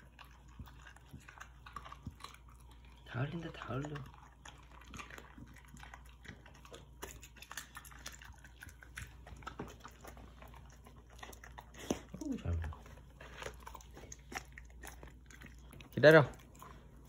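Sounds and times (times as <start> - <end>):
dog licking food from floor: 0.0 - 17.0.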